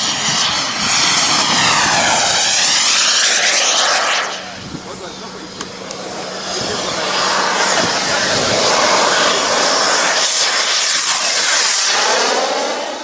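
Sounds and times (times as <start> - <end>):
model jet turbine roaring: 0.0 - 13.0.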